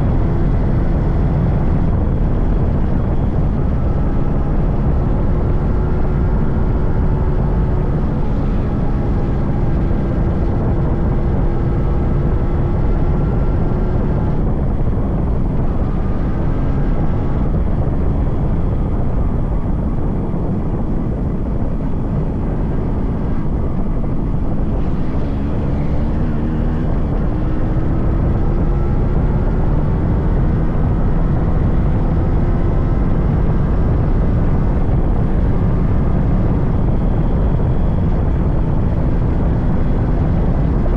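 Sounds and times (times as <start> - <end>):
motorcycle engine running: 0.0 - 40.9
wind and road rumble: 0.0 - 40.9.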